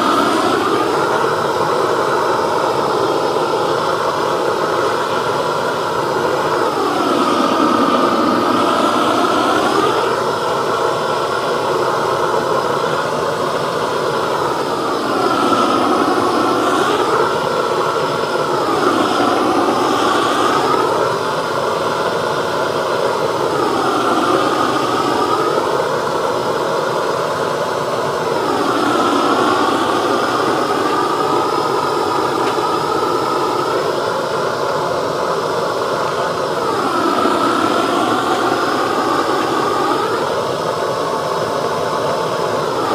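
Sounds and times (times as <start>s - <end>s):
blowtorch flame rushing: 0.0s - 42.9s.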